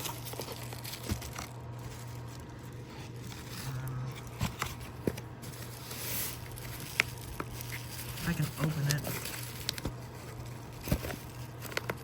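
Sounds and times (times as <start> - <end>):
bubble wrap and cardboard rustling: 0.0 - 12.0.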